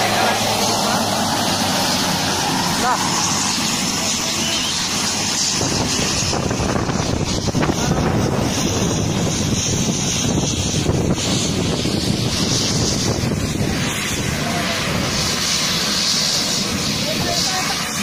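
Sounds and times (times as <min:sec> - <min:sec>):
turboprop engines rumbling: 0:00.0 - 0:18.0
wind buffeting microphone: 0:00.0 - 0:18.0.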